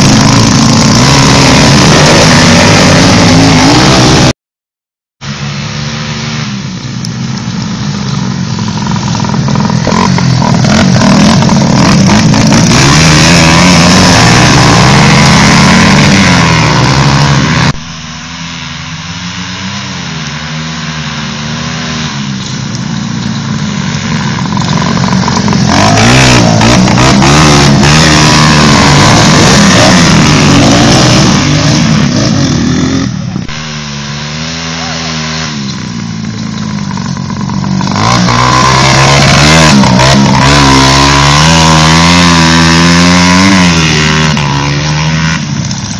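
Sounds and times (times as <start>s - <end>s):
motocross bike engine revving: 0.0s - 4.4s, 5.2s - 45.9s.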